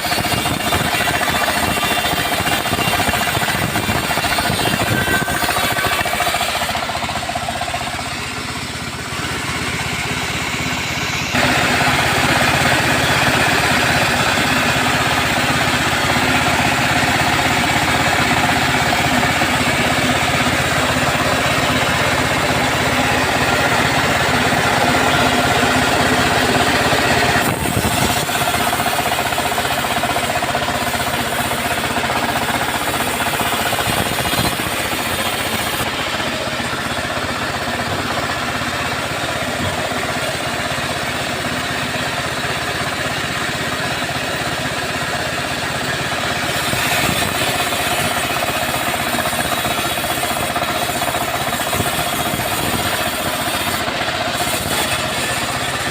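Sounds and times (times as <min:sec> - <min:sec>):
chainsaw sawing wood: 0:00.0 - 0:55.9.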